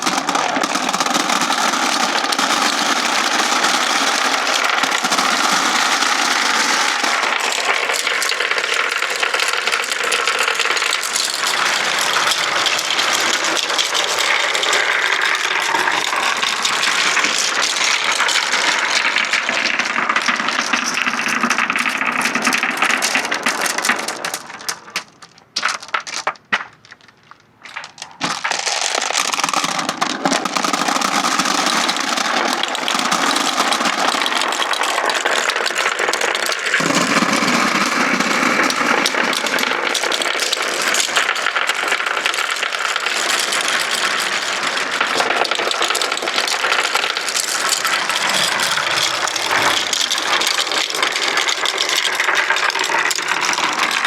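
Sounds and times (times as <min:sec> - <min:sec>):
marbles rolling on wooden ramps: 0:00.0 - 0:54.0.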